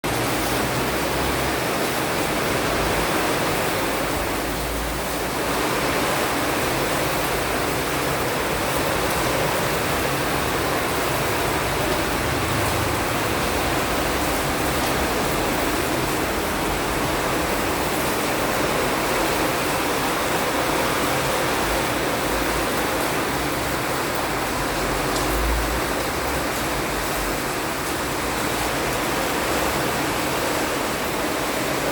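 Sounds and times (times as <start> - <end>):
heavy rain falling: 0.0 - 31.9.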